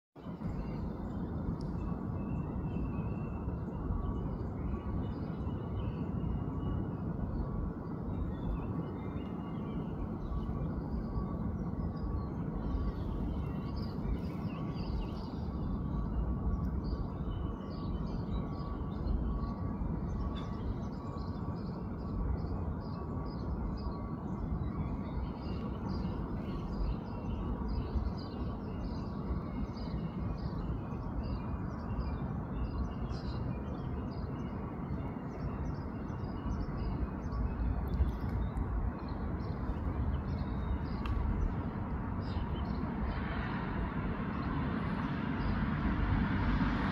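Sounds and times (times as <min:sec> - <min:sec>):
steady low rumble: 0:00.2 - 0:46.9.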